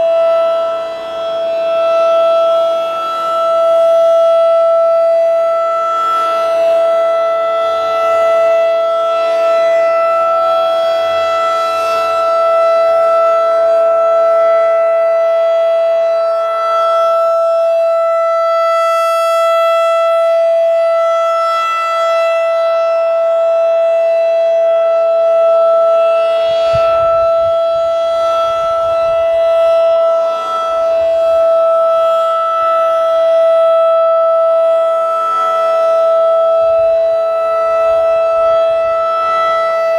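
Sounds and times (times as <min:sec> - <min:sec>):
fainter distant sirens: 0:00.0 - 0:39.9
rotating warning siren: 0:00.0 - 0:39.9.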